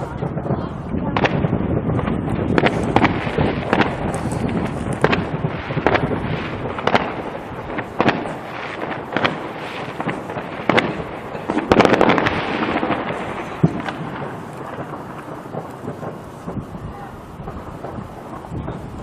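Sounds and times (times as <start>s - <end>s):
fireworks bursting with echo: 0.0s - 19.0s.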